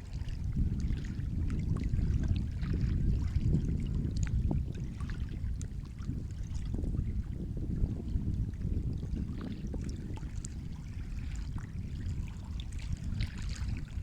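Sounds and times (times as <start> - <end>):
small splashes and trickles: 0.0 - 7.4, 8.5 - 14.0
sea water lapping: 0.0 - 7.7, 8.5 - 14.0.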